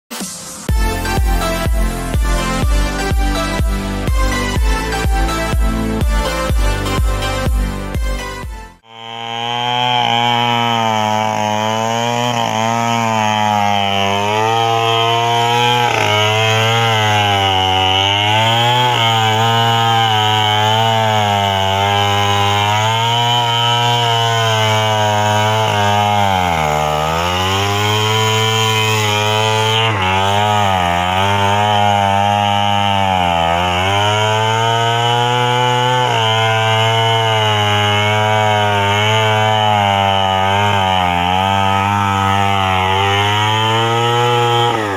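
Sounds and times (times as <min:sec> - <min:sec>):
chainsaw cutting wood: 0:00.1 - 0:44.9.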